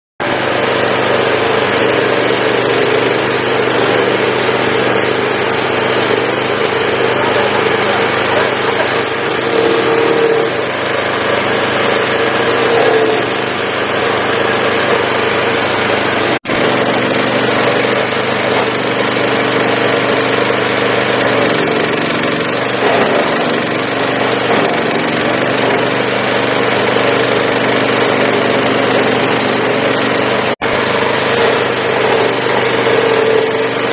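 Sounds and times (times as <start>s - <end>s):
stump grinder engine running: 0.2s - 33.9s.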